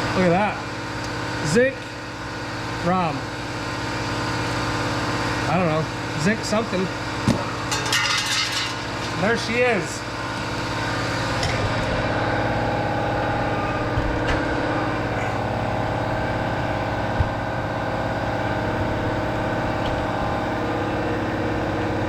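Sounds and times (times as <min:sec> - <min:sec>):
air compressor running: 0:00.0 - 0:22.0.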